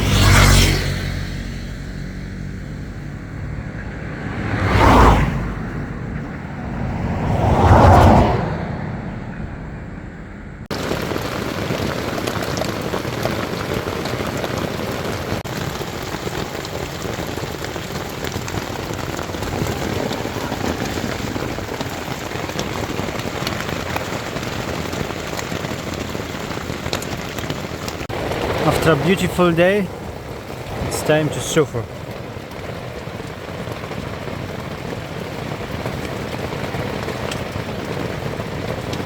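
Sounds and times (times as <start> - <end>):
heavy rain falling: 0.0 - 8.5, 10.7 - 39.0.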